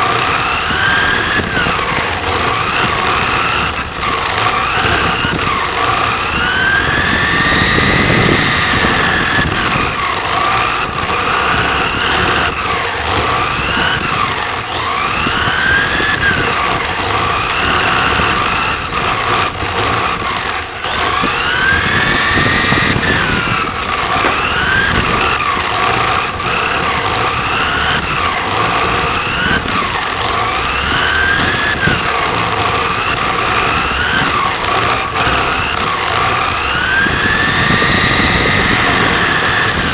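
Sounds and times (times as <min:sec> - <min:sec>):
rc car motor whining: 0:00.0 - 0:39.9
steady rushing noise: 0:00.0 - 0:39.9.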